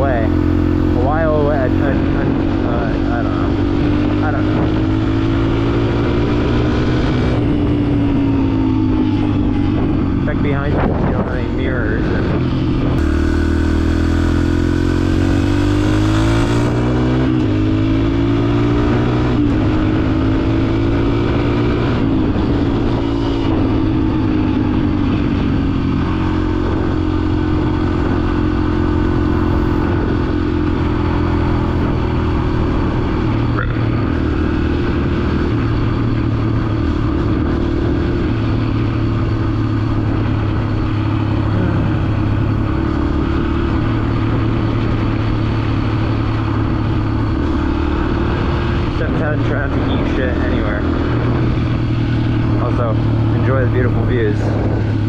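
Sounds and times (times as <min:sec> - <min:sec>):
dirt bike engine accelerating: 0:00.0 - 0:55.0.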